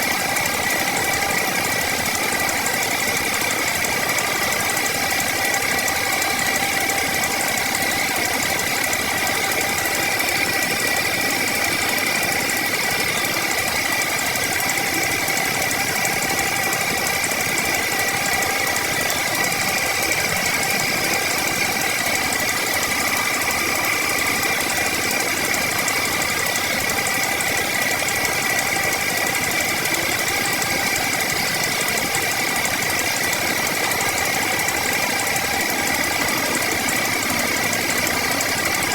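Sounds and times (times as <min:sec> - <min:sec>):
power woodworking tool running: 0:00.0 - 0:38.9.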